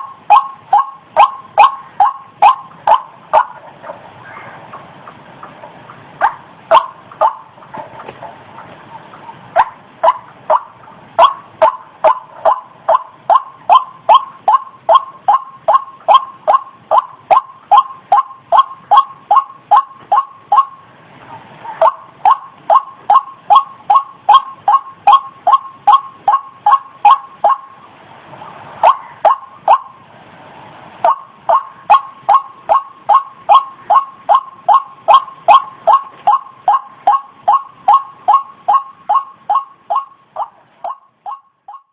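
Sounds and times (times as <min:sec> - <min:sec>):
waterhen kruok call: 0:00.0 - 0:28.0, 0:28.6 - 0:30.1, 0:31.0 - 0:41.9.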